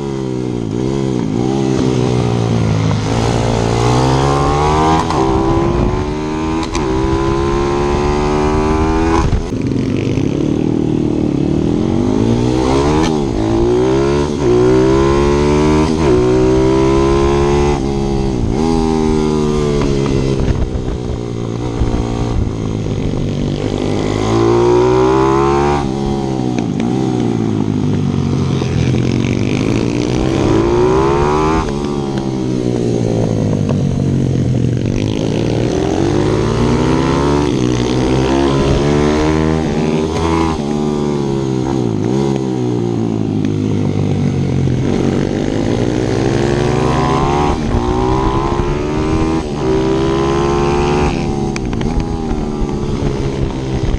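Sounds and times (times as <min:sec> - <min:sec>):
pit bike engine revving: 0:00.0 - 0:43.1, 0:43.7 - 0:53.9.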